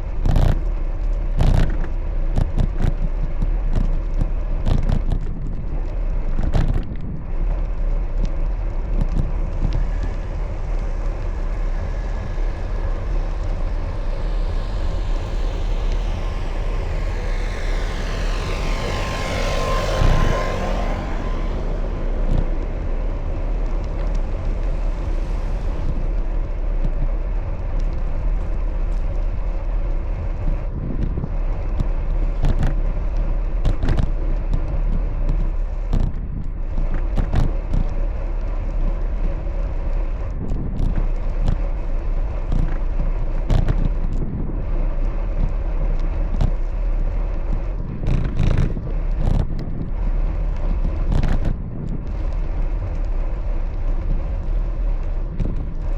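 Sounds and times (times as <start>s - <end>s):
bicycle road rumble: 0.0s - 55.9s
wind: 0.0s - 55.9s.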